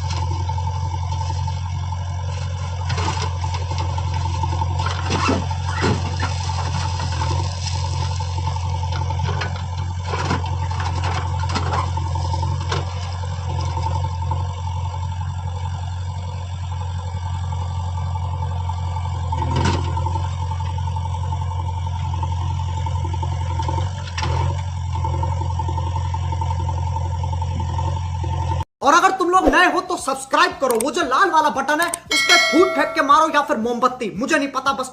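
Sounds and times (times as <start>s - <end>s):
diesel engine running: 0.0s - 28.6s.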